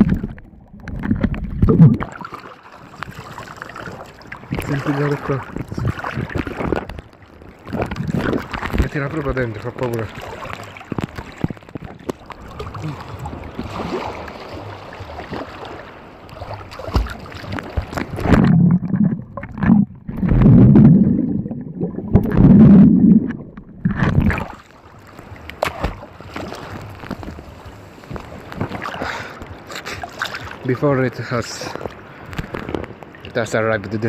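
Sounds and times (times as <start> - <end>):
low rushing water surges: 0.0 - 34.0
sea water sloshing and gurgling: 0.0 - 34.0.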